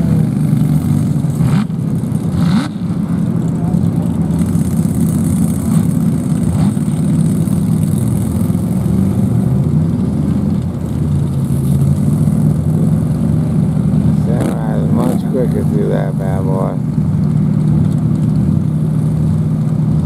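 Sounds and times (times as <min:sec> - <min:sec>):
truck engine running at low revs: 0:00.0 - 0:20.0.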